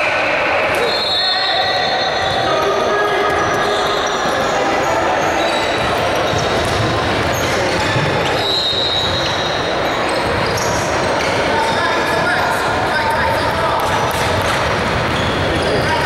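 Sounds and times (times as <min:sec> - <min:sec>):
voices echoing in a hall: 0:00.0 - 0:16.0.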